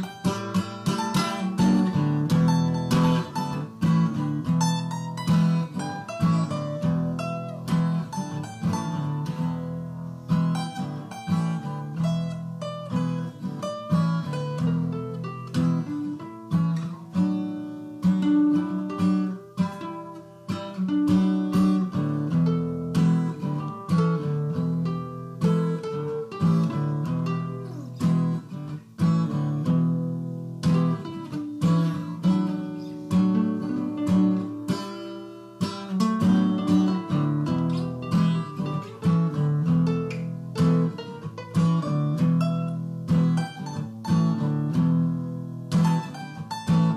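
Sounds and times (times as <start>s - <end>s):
acoustic guitar music: 0.0s - 46.9s.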